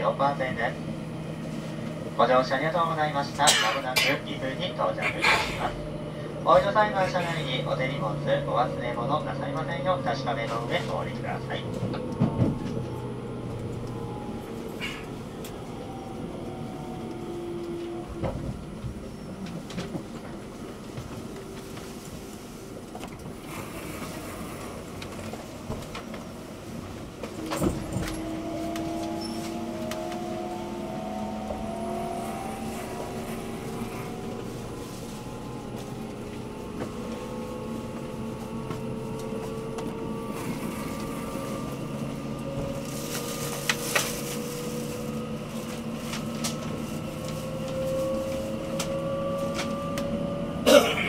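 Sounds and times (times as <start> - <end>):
train running rumble: 0.0 - 51.0.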